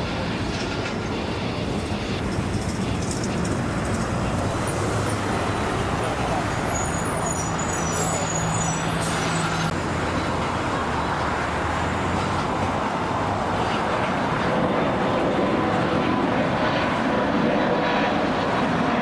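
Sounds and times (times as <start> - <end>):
passing vehicle engine hum: 0.0 - 19.0
road traffic noise: 0.0 - 19.0.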